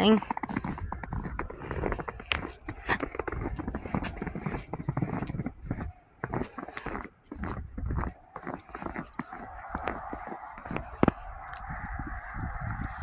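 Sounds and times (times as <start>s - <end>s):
boots crunching through snow: 0.0s - 11.5s
wind rumble on microphone: 0.0s - 13.0s.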